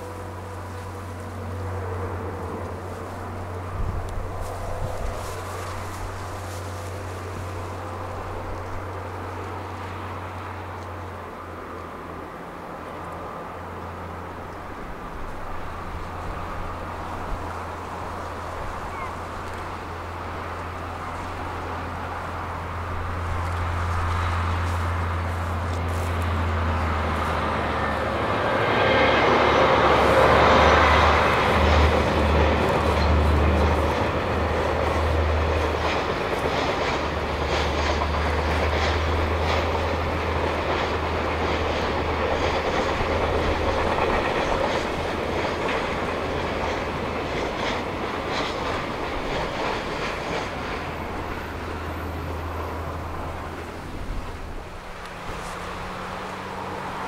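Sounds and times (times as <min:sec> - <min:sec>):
locomotive engine drone: 0:00.0 - 0:57.0
train wheels on rails: 0:00.0 - 0:57.0.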